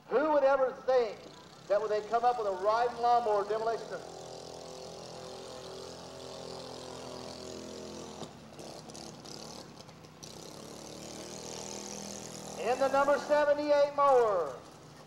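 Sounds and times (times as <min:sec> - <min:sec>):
riding mower engine running: 0:00.0 - 0:15.0.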